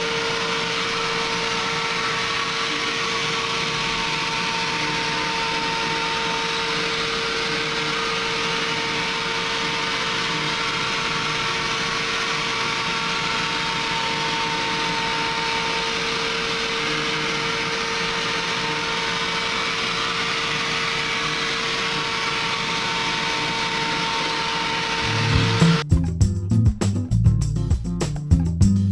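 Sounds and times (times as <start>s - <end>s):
milling machine cutting wood: 0.0s - 25.8s.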